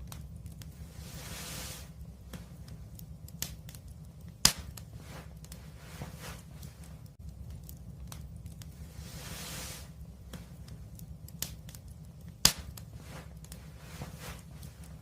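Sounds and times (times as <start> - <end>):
soft hiss: 0.0 - 15.0
wood fire crackling: 0.0 - 15.0.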